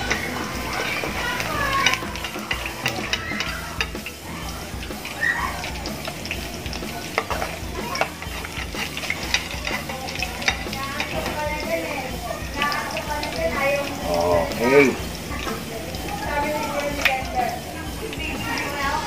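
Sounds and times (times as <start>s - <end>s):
fish frying in hot oil: 0.0s - 19.0s
metal spatula scraping pan: 0.0s - 19.0s.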